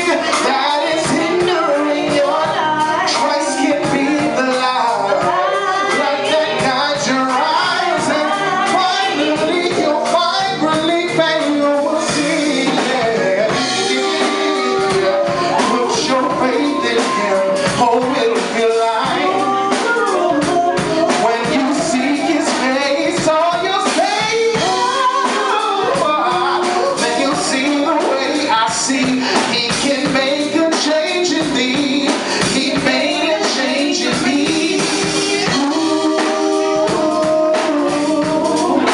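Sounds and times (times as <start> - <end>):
woman singing: 0.0 - 11.4, 12.1 - 38.9
band with drums: 0.0 - 38.9
man singing: 0.0 - 38.9.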